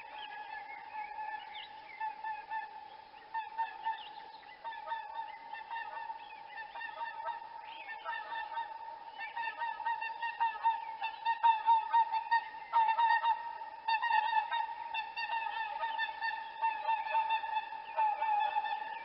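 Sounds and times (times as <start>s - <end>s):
swans honking: 0.0s - 19.0s.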